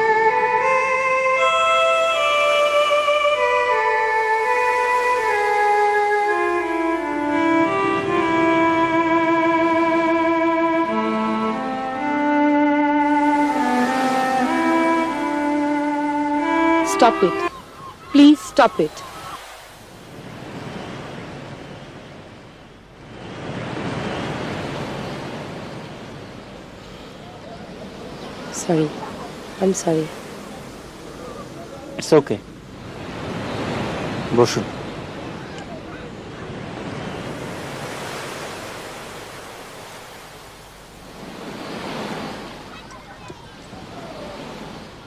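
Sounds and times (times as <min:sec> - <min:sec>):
sea surf: 0:00.0 - 0:45.0.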